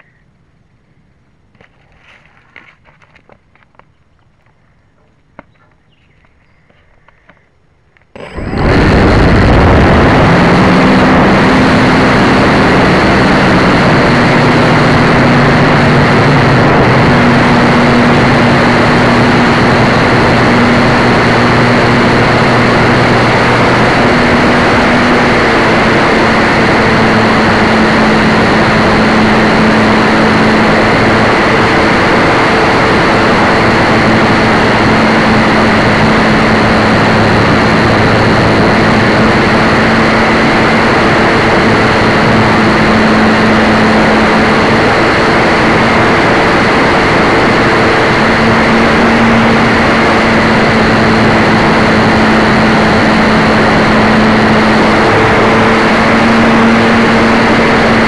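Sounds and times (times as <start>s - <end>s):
model airplane motor and propeller: 8.1s - 58.0s.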